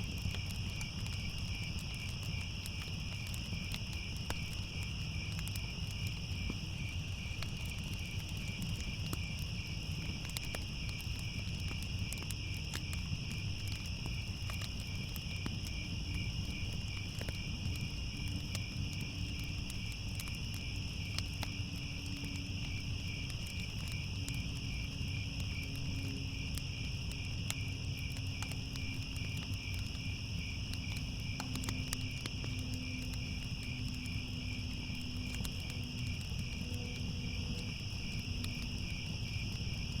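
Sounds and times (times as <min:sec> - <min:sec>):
crickets chirring: 0:00.0 - 0:40.0
faint crackles: 0:00.0 - 0:40.0.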